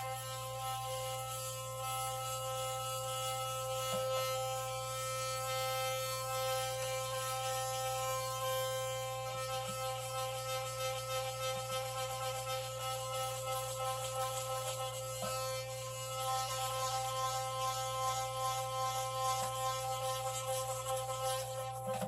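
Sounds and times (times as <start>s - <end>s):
electric toothbrush buzzing: 0.0s - 22.0s.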